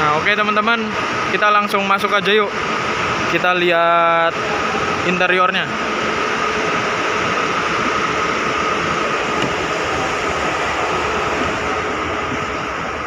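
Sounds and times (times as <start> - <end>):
faint steady whine: 0.0 - 13.0
idling buses droning: 0.0 - 13.0.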